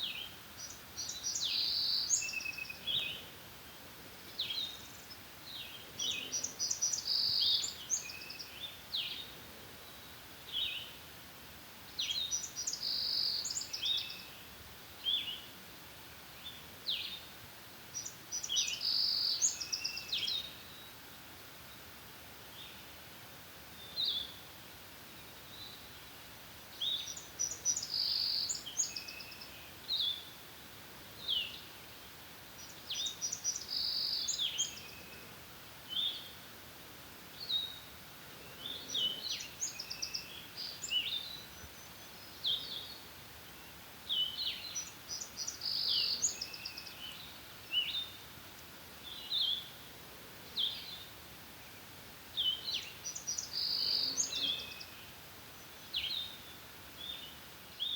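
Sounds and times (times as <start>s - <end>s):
songbirds singing: 0.0s - 11.2s, 11.8s - 57.9s.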